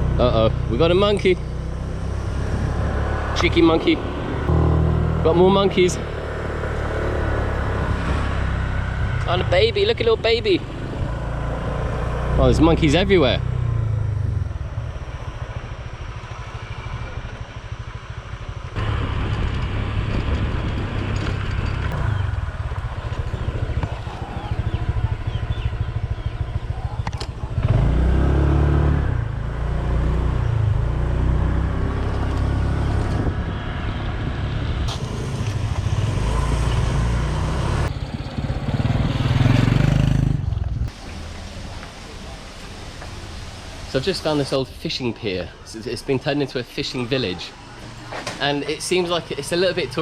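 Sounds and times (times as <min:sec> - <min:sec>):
road and wind noise: 0:00.0 - 0:50.0
vehicle engine: 0:00.0 - 0:50.0.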